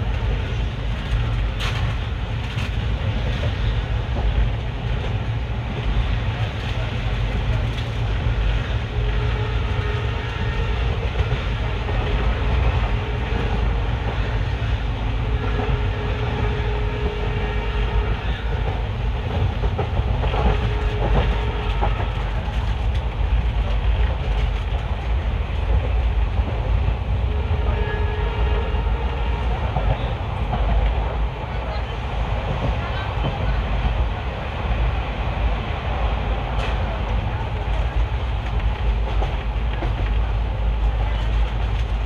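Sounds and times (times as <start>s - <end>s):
clickety-clack over rail joints: 0.0s - 42.0s
train wheels rumbling on rails: 0.0s - 42.0s.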